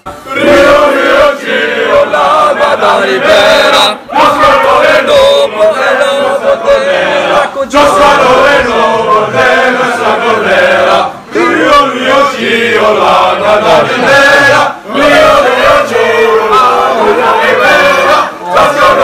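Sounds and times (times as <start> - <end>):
young men chanting in unison: 0.3 - 19.0.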